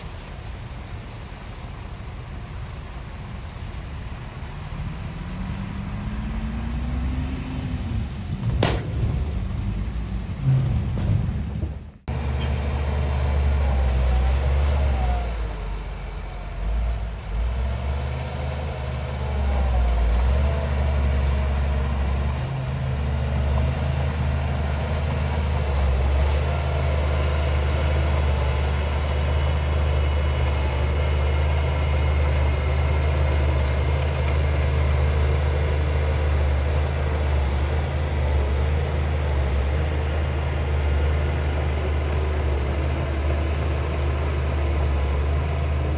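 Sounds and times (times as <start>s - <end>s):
heavy diesel engine humming: 0.0s - 45.9s.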